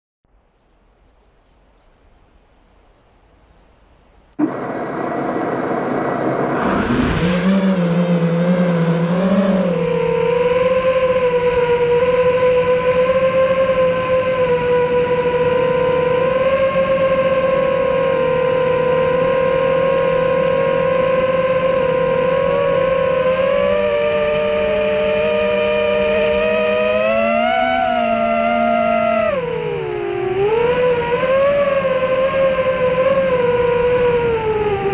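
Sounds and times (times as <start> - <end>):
drone motors whining: 4.4 - 34.9.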